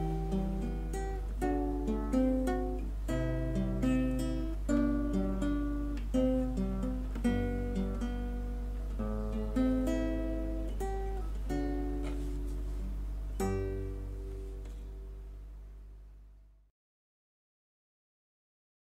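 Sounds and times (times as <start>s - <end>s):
acoustic guitar notes: 0.0s - 15.8s.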